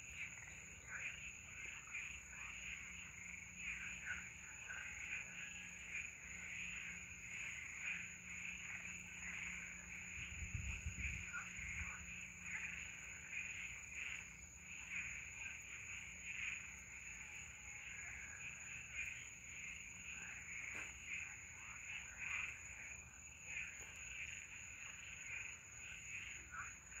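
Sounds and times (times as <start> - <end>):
chorus of frogs calling: 0.0 - 27.0
steady high-pitched whine: 0.0 - 27.0.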